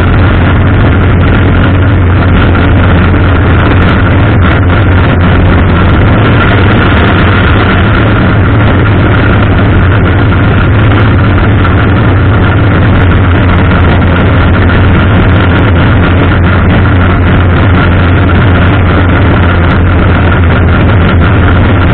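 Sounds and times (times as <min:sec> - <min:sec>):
race car engine idling: 0:00.0 - 0:21.9.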